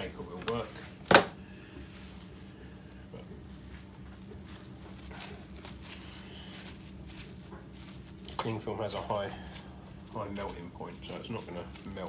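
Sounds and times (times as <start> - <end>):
cling film crinkling: 0.0 - 12.0
steady low hum: 0.0 - 12.0.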